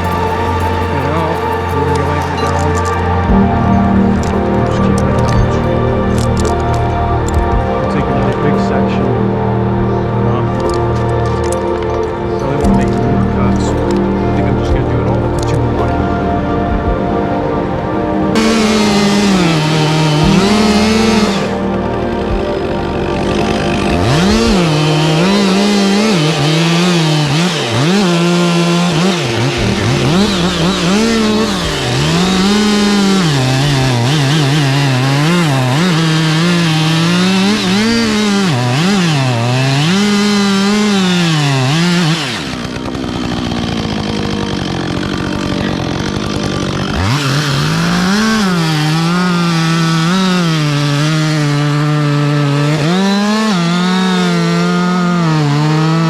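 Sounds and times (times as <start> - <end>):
chainsaw cutting wood: 0.0 - 8.4, 18.4 - 56.0.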